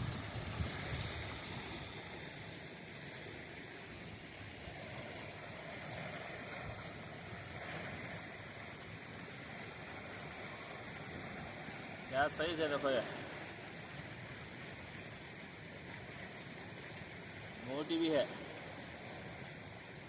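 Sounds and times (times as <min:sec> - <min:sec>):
steady rushing outdoor noise: 0:00.0 - 0:20.0.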